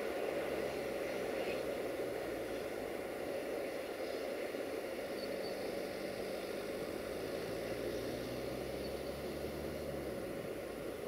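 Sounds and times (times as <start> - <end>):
diesel locomotive hum: 0.0 - 11.0
distant freight train rumble: 0.0 - 11.0.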